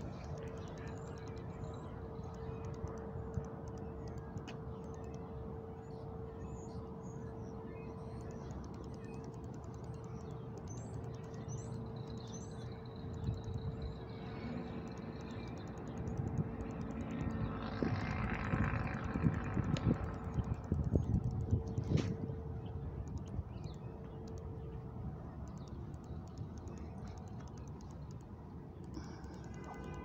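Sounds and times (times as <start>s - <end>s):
constant hum: 0.0s - 30.0s
distant traffic: 0.0s - 30.0s
wind: 0.0s - 30.0s.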